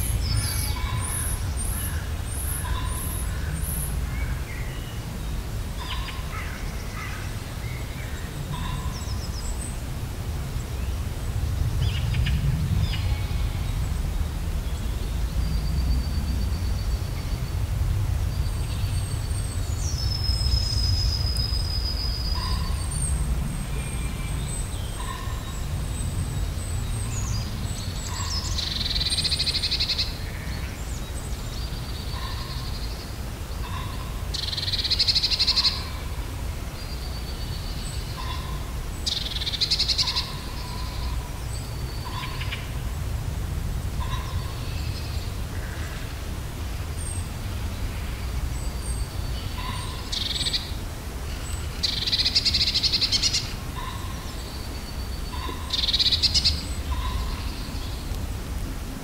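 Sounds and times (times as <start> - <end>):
loud bird song phrases: 0.0 - 43.0, 46.8 - 58.2.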